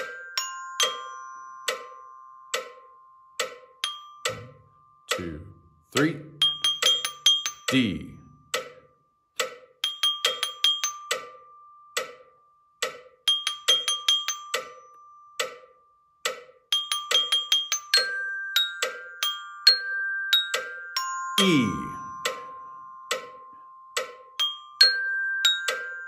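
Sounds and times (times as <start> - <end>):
glockenspiel notes struck with mallets: 0.0 - 26.0.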